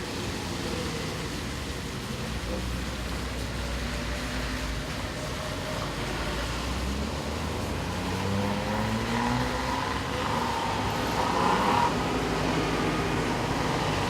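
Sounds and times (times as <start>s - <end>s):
car passing on wet road: 0.0s - 14.0s
steady rain: 0.0s - 14.0s.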